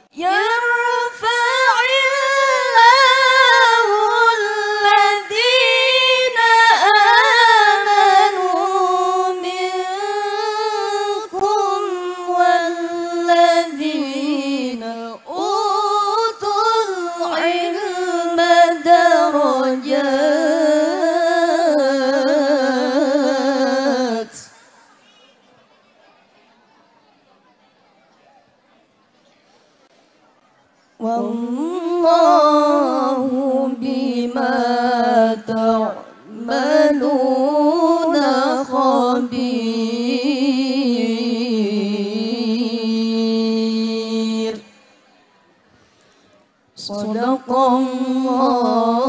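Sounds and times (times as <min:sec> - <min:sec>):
woman chanting into a microphone: 0:00.0 - 0:24.8, 0:31.0 - 0:44.9, 0:46.8 - 0:49.0.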